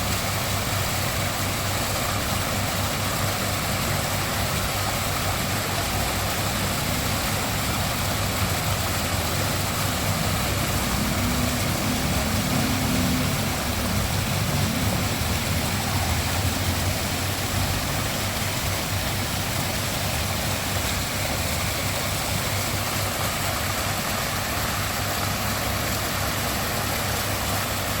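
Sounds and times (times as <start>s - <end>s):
waterfall pouring and splashing: 0.0s - 28.0s.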